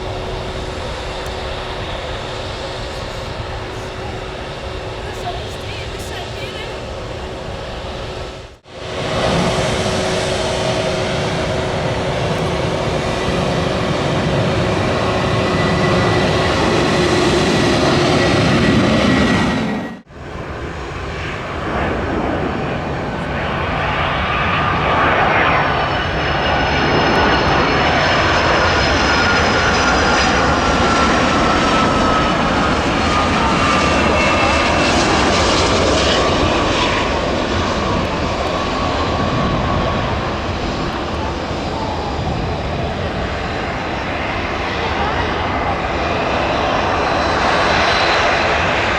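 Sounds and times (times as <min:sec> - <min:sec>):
jet engines roaring: 0:00.0 - 0:48.9.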